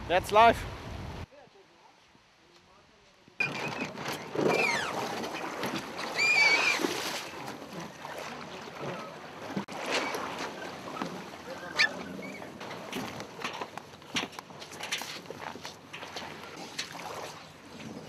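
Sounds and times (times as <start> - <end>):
wind: 0.0 - 18.0
splashing water: 3.4 - 18.0.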